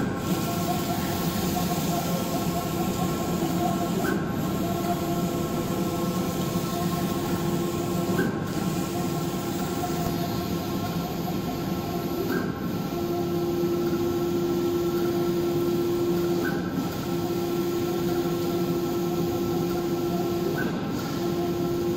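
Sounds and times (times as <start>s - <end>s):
printer carriage motor whine: 0.0s - 21.9s.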